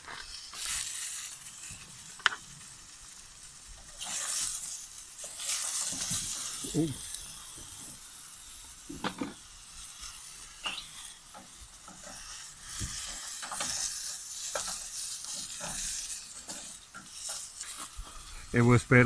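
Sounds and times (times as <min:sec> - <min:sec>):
mushrooms sizzling in oil: 0:00.0 - 0:19.0.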